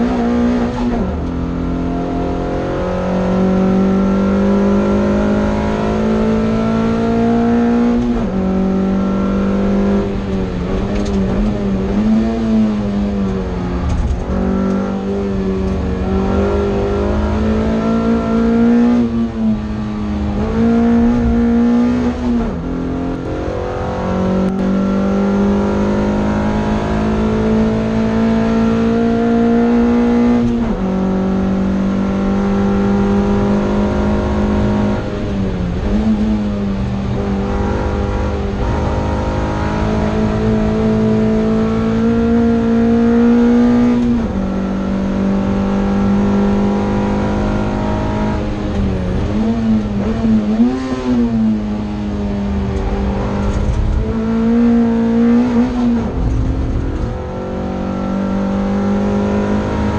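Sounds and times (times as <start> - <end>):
race car engine at high revs: 0.0 - 59.9.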